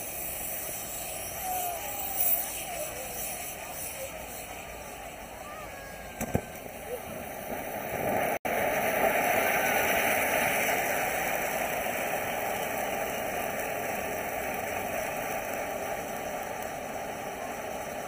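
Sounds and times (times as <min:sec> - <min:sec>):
firework spraying sparks hissing: 0:00.0 - 0:18.0.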